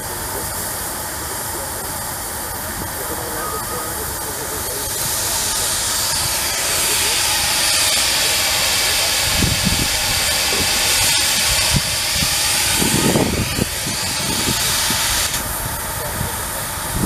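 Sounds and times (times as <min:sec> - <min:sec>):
steam engine hissing: 0:00.0 - 0:17.0.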